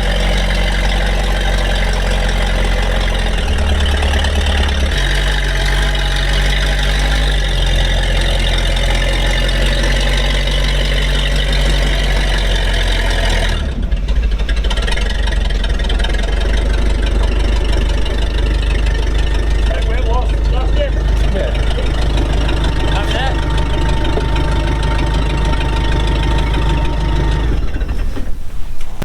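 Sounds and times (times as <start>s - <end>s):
armoured vehicle engine running: 0.0s - 29.0s.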